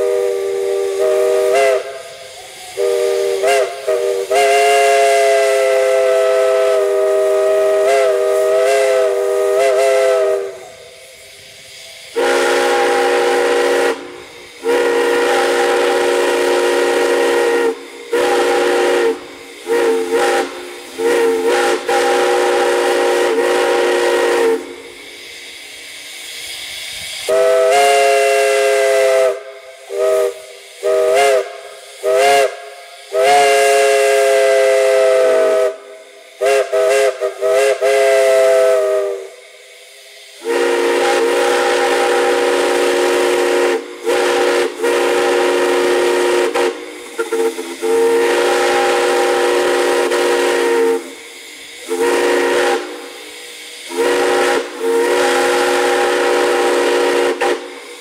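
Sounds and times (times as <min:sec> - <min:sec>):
chime steam whistle: 0:00.0 - 0:58.0
low hissy steam whistle: 0:00.0 - 0:58.0.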